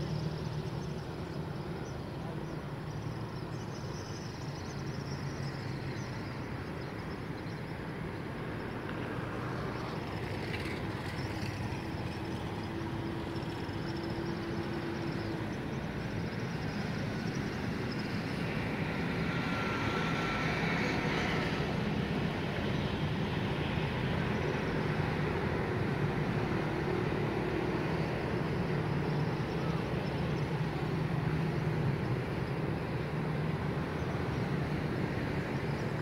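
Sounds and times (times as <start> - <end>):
road traffic: 0.0 - 36.0.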